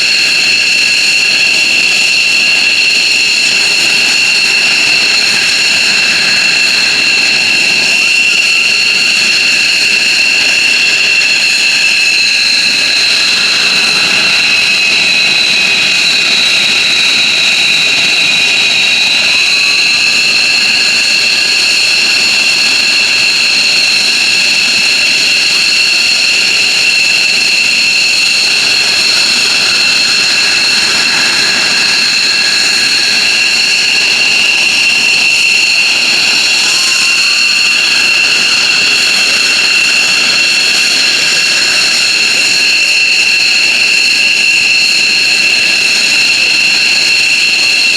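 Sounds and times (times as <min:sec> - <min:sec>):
jet engines whining: 0:00.0 - 0:47.9.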